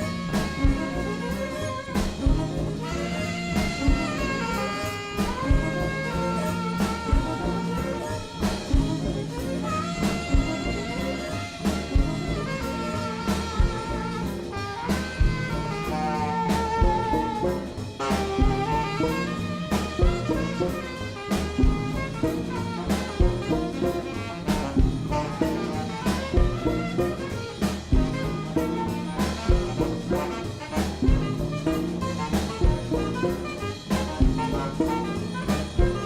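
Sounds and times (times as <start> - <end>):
drum kit steady beat: 0.0 - 36.0
jazz music with brass horns: 0.0 - 36.0.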